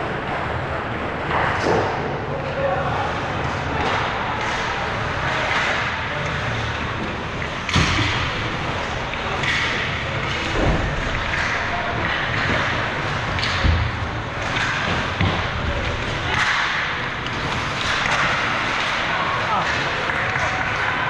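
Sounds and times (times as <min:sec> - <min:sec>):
arena ambience: 0:00.0 - 0:21.0.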